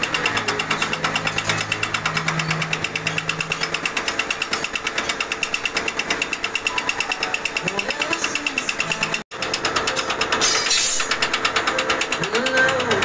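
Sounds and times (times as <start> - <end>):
milling cutter rapid hammering: 0.0 - 13.0.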